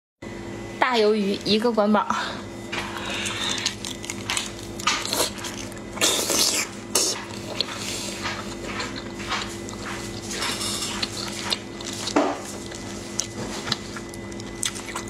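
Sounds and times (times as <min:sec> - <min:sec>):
low steady hum: 0:00.2 - 0:15.0
person chewing soft food: 0:02.7 - 0:15.0.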